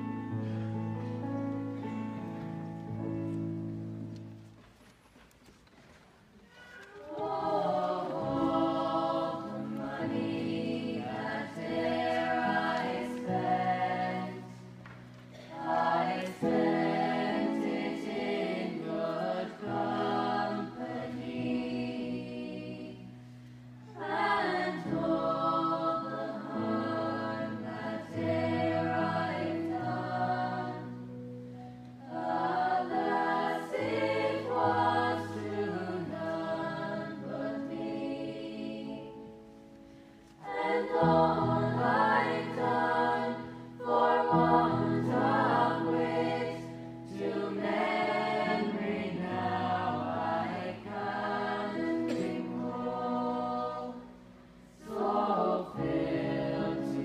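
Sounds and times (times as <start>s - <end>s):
choir singing: 7.0s - 31.3s, 32.0s - 39.5s, 40.4s - 57.0s.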